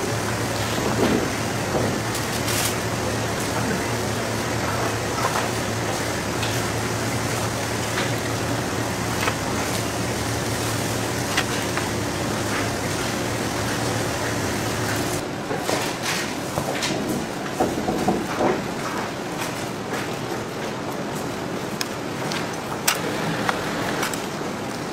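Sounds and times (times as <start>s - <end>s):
machinery hum and hiss: 0.0s - 24.9s.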